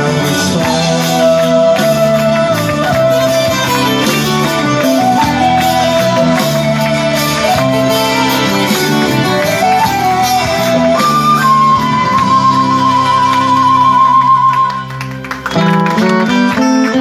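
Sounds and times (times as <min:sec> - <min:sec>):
instrumental song passage: 0:00.0 - 0:17.0.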